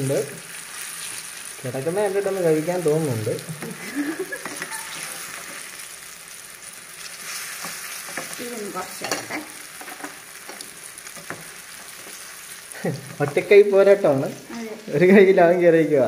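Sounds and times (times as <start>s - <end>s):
fritters deep-frying in oil: 0.0s - 16.0s.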